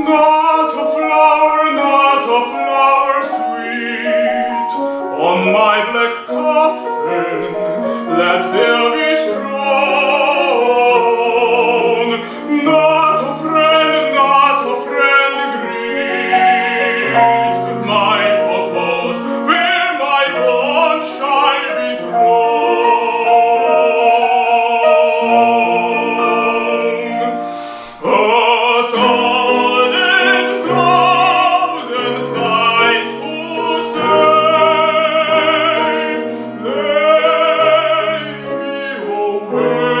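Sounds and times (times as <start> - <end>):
piano accompaniment: 0.0 - 40.0
tenor singing with vibrato: 0.0 - 40.0.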